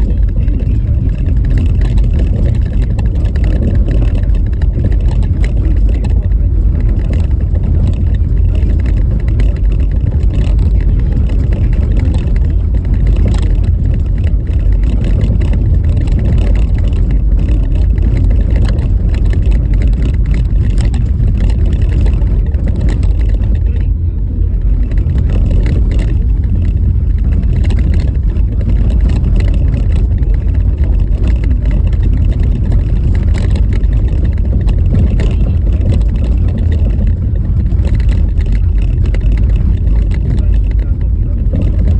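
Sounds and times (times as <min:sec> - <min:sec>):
car knocks and jolts: 0:00.0 - 0:41.9
tyre road noise rumbling: 0:00.0 - 0:41.9.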